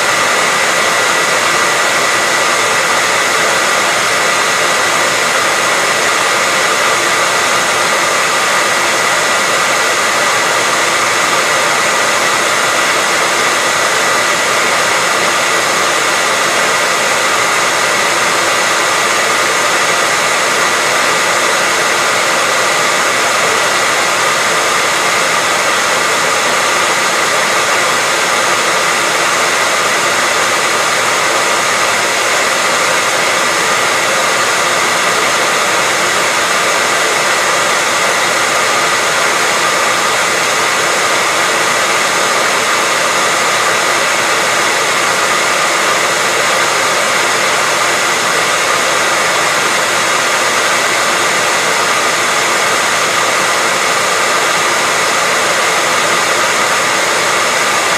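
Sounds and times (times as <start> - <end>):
hair dryer blowing: 0.0 - 57.9.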